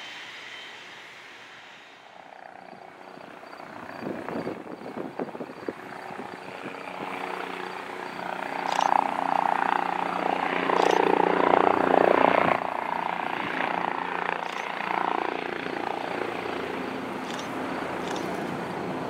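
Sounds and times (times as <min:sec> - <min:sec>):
helicopter approaching: 0:00.0 - 0:19.0.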